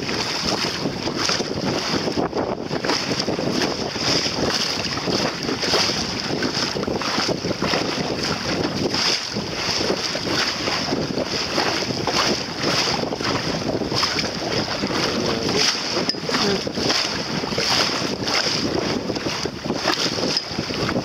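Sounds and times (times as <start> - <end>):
water splashing along boat hull: 0.0 - 21.0
wind buffeting microphone: 0.0 - 21.0.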